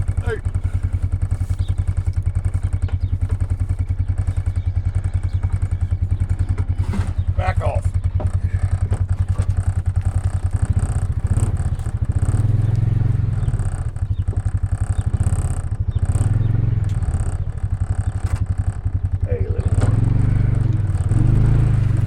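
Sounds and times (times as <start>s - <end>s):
farm vehicle engine pulsing: 0.0s - 22.0s.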